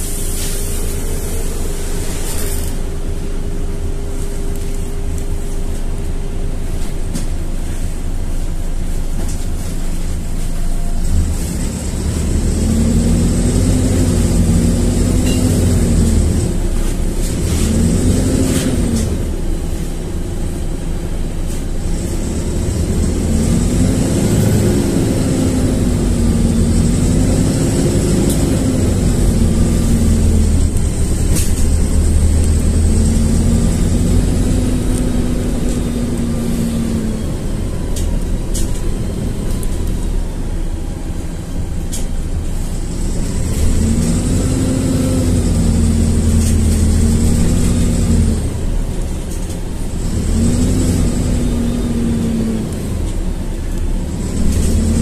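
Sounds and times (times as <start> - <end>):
bus engine rumble: 0.0 - 55.0.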